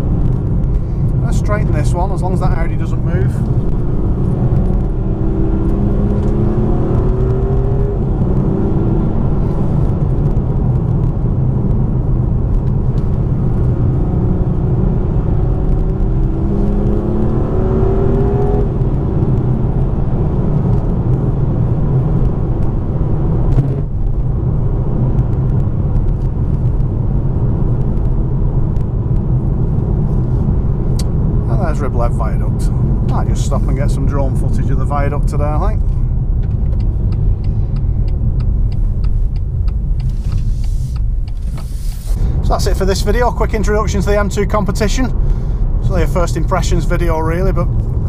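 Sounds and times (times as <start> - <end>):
car engine revving: 0.0 - 48.0
road and tyre rumble: 0.0 - 48.0.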